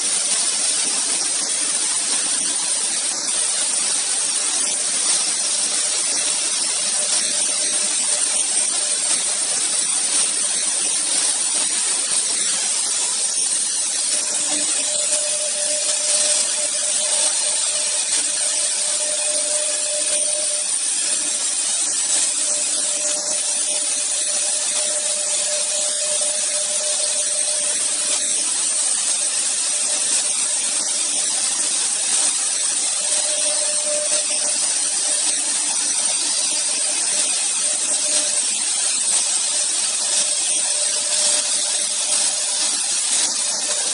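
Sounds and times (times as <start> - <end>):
faint steady whine: 0.0 - 43.9
router cutting hiss: 0.0 - 43.9.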